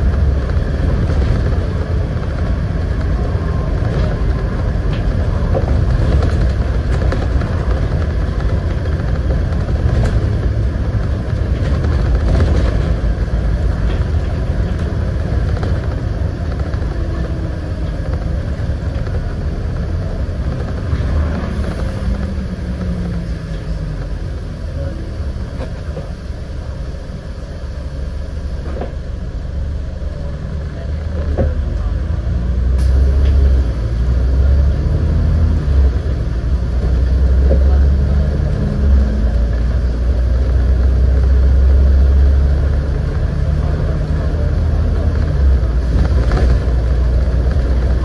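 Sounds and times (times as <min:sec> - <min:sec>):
bus engine drone: 0:00.0 - 0:48.0
road rumble: 0:00.0 - 0:48.0.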